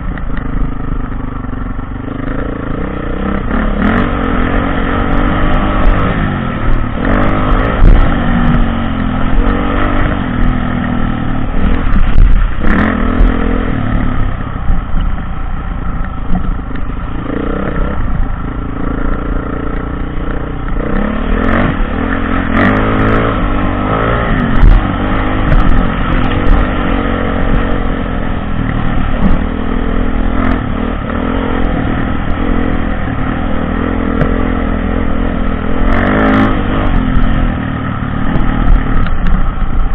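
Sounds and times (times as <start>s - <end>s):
dirt bike engine revving: 2.0s - 14.9s, 16.8s - 39.9s.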